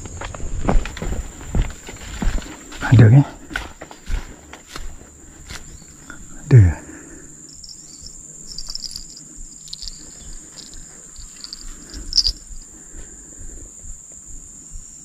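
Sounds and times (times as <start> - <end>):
insect chirps: 0.0 - 15.0
insects droning: 0.0 - 15.0.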